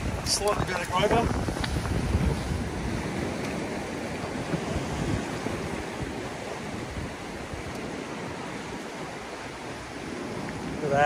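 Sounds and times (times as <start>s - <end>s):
surf breaking on rocks: 0.0s - 11.0s
wind buffeting microphone: 0.0s - 11.0s.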